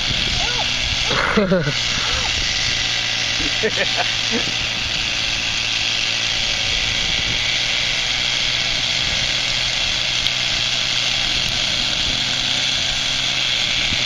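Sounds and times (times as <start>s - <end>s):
model helicopter engine whine: 0.0s - 14.0s.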